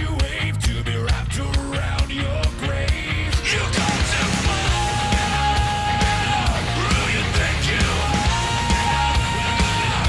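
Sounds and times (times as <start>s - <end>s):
rock music with drum beat: 0.0s - 10.0s.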